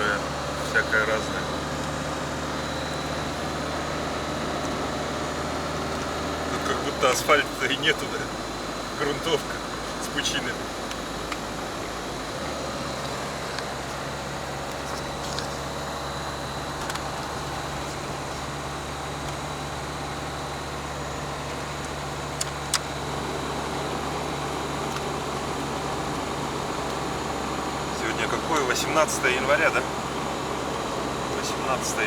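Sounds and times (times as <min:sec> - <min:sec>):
car engine hum: 0:00.0 - 0:32.0
tyre and road noise: 0:00.0 - 0:32.0.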